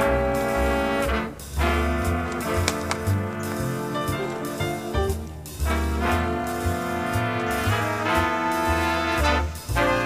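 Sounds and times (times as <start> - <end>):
swing music with brass: 0.0 - 10.0.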